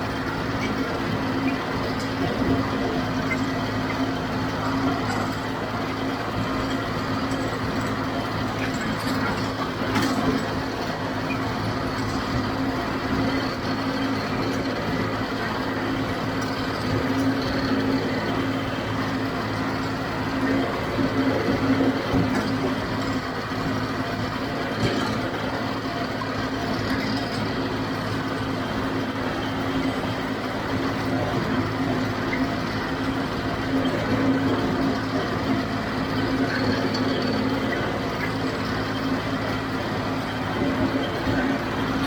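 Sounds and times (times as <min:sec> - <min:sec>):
baler mechanical clatter: 0:00.0 - 0:42.0
tractor diesel engine running: 0:00.0 - 0:42.0.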